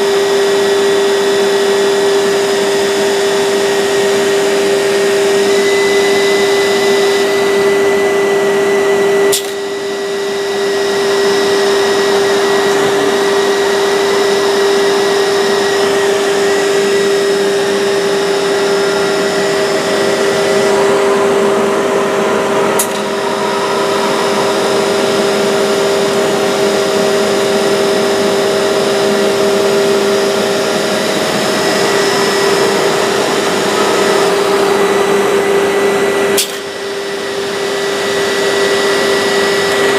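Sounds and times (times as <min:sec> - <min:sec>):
motor whine: 0:00.0 - 0:39.9
woodworking machine running: 0:00.0 - 0:39.9.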